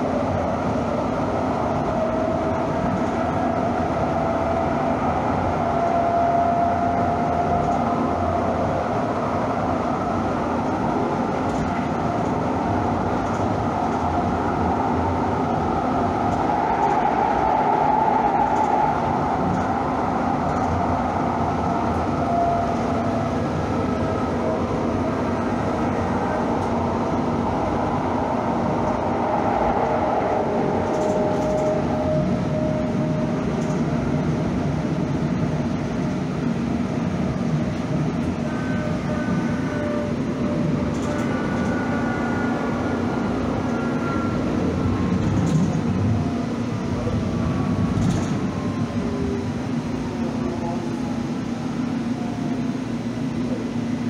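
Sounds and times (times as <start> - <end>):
faint whining tones: 0.0 - 54.0
light rail train running: 0.0 - 54.0.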